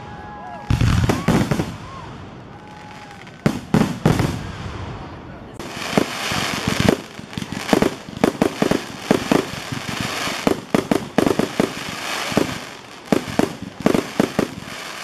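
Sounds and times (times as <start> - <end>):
fireworks bangs: 0.0 - 15.0
fireworks crackling hiss: 0.1 - 15.0.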